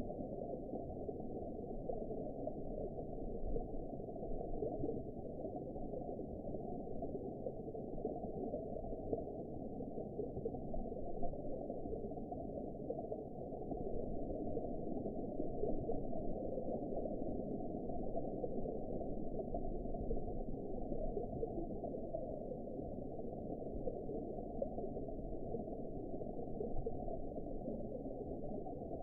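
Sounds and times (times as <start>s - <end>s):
underwater rushing and gurgling: 0.0s - 29.0s.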